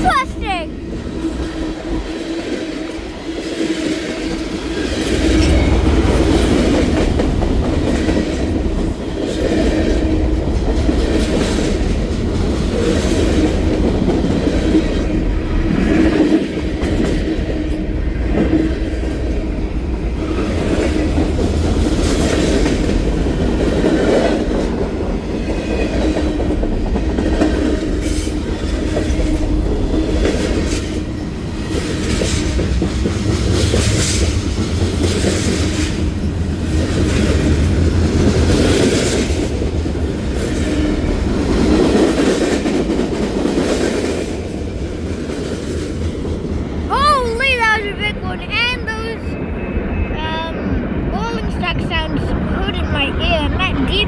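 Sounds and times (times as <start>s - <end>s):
train rumble: 0.7s - 54.0s.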